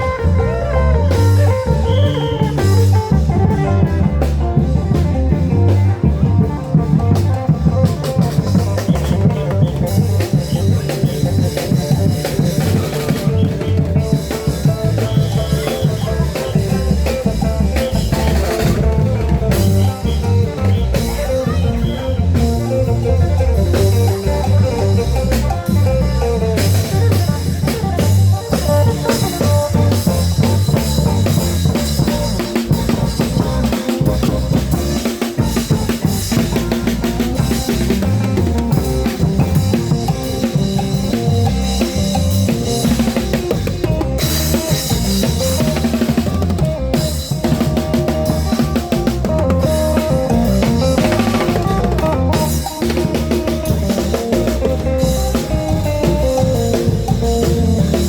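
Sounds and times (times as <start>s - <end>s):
drum band procession music: 0.0s - 58.0s.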